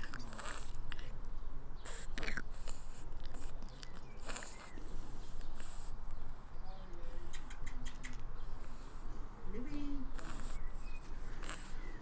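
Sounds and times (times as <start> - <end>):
puppy snuffling in grass: 0.0 - 1.2, 1.8 - 12.0.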